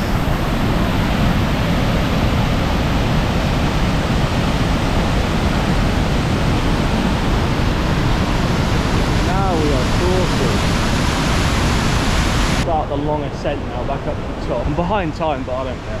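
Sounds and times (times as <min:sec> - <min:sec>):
waterfall rushing water: 0:00.0 - 0:13.2.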